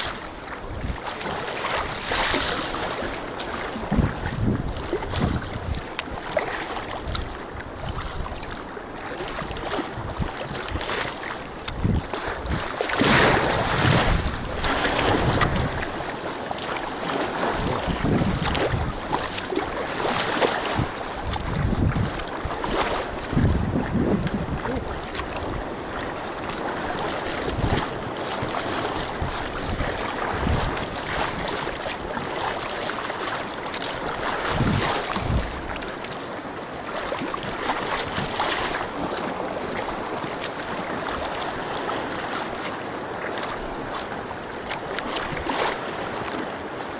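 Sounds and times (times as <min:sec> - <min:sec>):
water splashing around kayak: 0:00.0 - 0:46.9
wind rumbling on microphone: 0:00.0 - 0:46.9.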